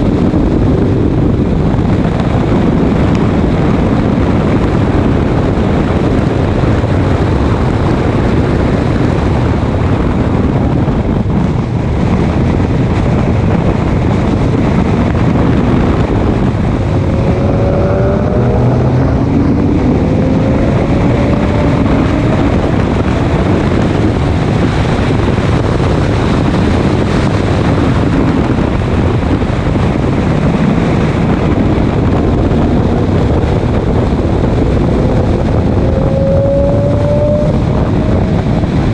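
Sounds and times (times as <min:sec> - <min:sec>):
race car engine roaring: 0:00.0 - 0:38.9
wind noise: 0:00.0 - 0:38.9.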